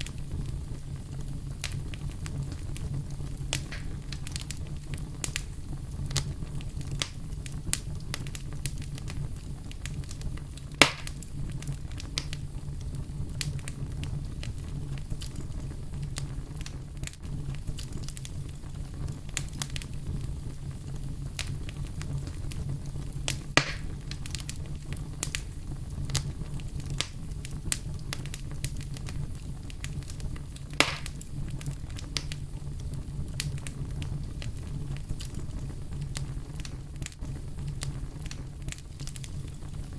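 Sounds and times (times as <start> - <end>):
fire low rumble: 0.0 - 39.9
fire sharp pops: 0.0 - 39.9
wood fire crackling: 0.0 - 39.9.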